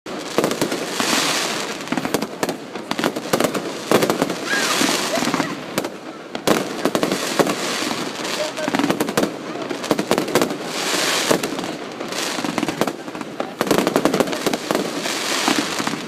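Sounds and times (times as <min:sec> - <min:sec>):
fireworks bangs and pops: 0:00.1 - 0:16.0
fireworks hissing crackle: 0:00.1 - 0:16.0.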